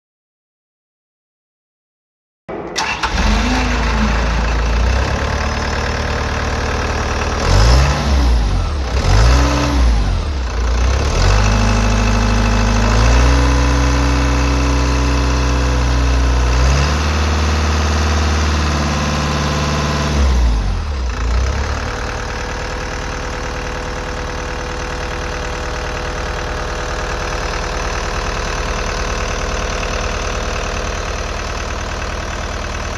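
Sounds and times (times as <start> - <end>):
diesel engine revving and idling: 2.6 - 32.9.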